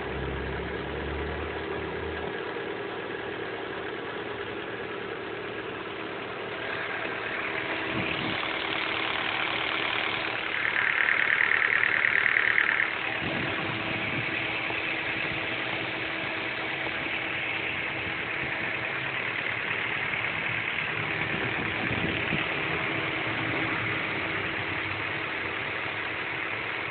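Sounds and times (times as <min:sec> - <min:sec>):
car engine idling: 0:00.0 - 0:26.9
engine ticking: 0:00.0 - 0:26.9
high-pitched rattle: 0:02.3 - 0:26.9.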